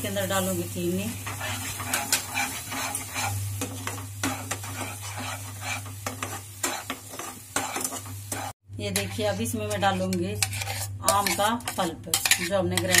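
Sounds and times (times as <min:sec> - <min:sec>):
spatula scraping a pan: 0:01.1 - 0:13.0.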